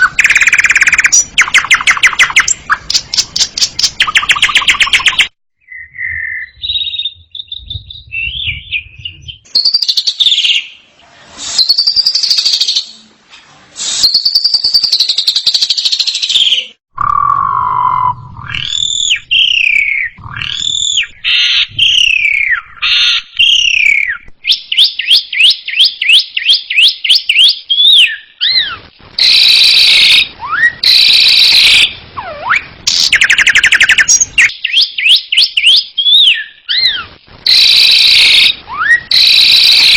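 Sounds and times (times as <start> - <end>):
starling singing: 0.0 - 10.8, 14.1 - 39.9.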